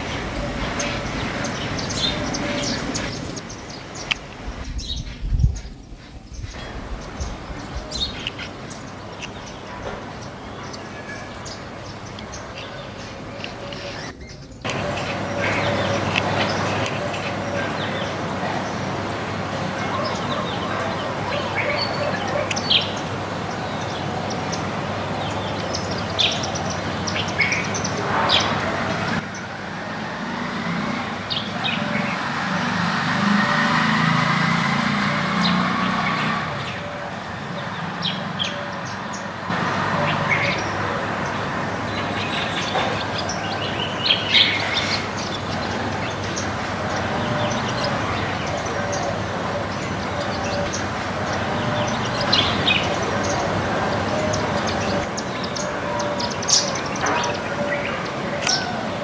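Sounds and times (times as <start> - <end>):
vehicle passing: 0.0 - 5.6, 14.7 - 59.0
birds chirping: 0.0 - 59.0
outdoor background noise: 0.0 - 59.0.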